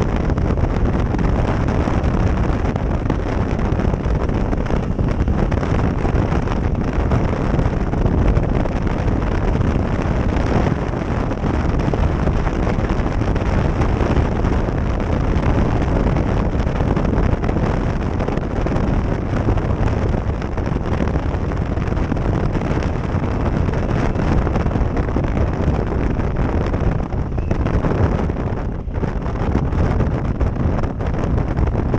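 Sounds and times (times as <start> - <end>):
wind buffeting a microphone: 0.0 - 31.9.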